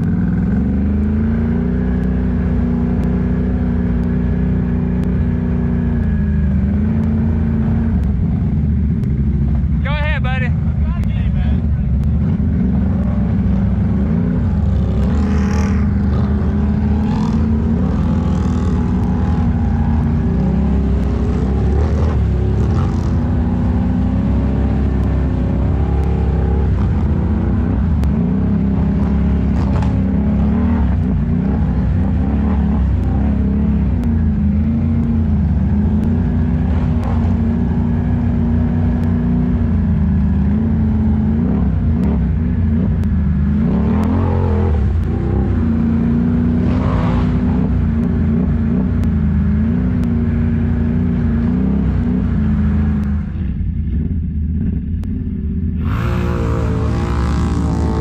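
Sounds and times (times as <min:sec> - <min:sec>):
atv engine revving: 0:00.0 - 0:53.7, 0:55.8 - 0:58.0.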